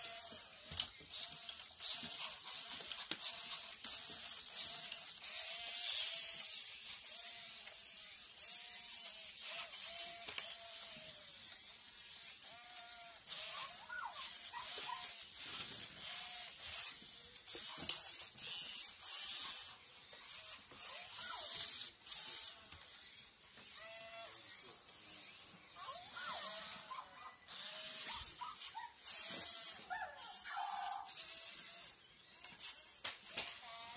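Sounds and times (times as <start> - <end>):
motors and gears whirring: 0.0 - 33.9.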